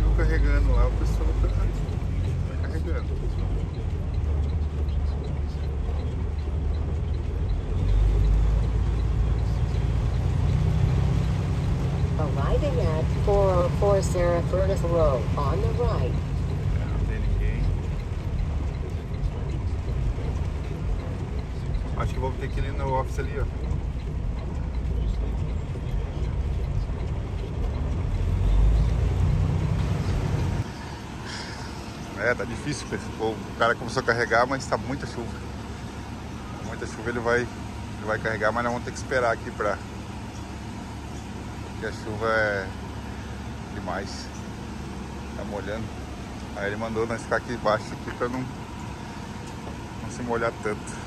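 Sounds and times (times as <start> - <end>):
diesel engine rumble: 0.0 - 51.0
heavy rain on truck cab: 0.0 - 51.0.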